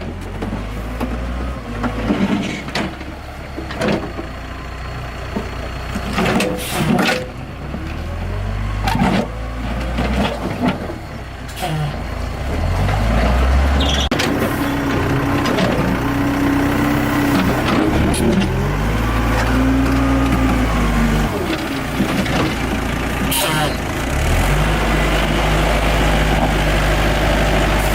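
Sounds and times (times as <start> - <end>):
diesel engine rumbling: 0.0 - 27.9.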